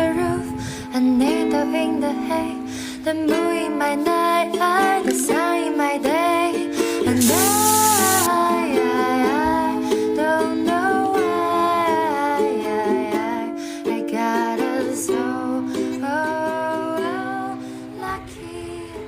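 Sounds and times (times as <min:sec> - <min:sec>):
gentle acoustic pop music: 0:00.0 - 0:19.0.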